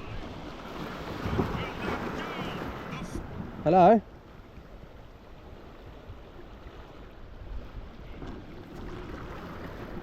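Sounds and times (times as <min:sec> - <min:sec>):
wind rumbling on microphone: 0:00.0 - 0:03.7, 0:04.4 - 0:10.0
sea waves washing: 0:00.0 - 0:10.0.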